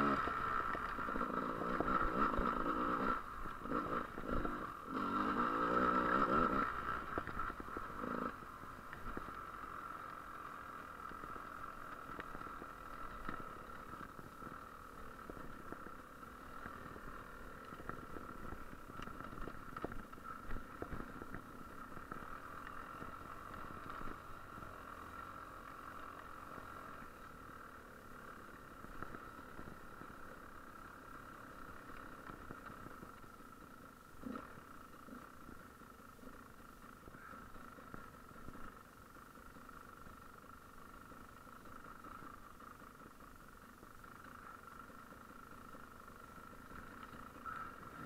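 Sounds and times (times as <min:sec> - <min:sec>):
muffled motorbike engine: 0:00.0 - 0:48.0.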